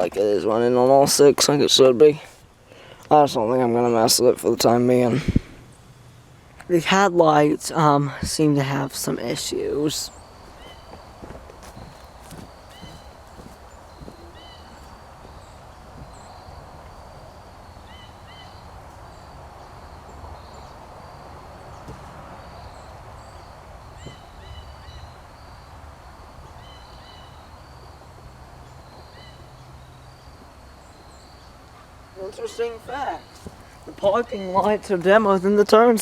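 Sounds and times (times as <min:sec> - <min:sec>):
small birds chirping: 0:06.5 - 0:36.0.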